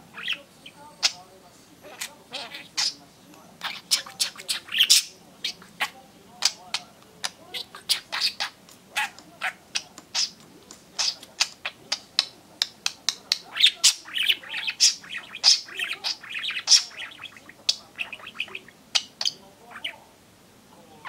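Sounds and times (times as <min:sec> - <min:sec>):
budgerigar chattering: 0:00.0 - 0:01.2, 0:01.9 - 0:03.0, 0:03.6 - 0:10.4, 0:11.0 - 0:20.0.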